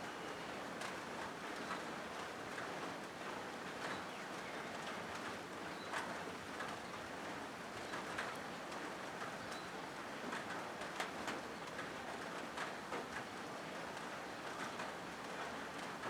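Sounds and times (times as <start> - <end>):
rain on a metal roof: 0.0 - 16.0.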